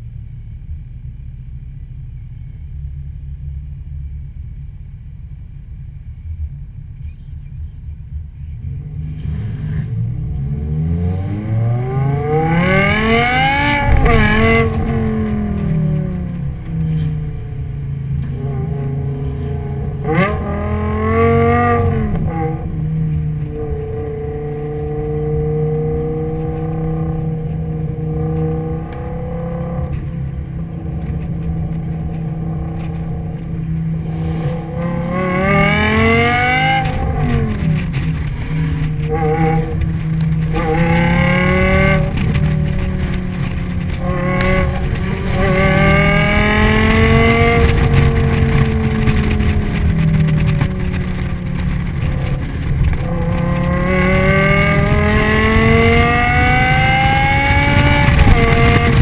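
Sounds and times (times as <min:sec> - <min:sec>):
tyre and road noise: 0:00.0 - 0:59.0
car engine revving: 0:07.0 - 0:59.0.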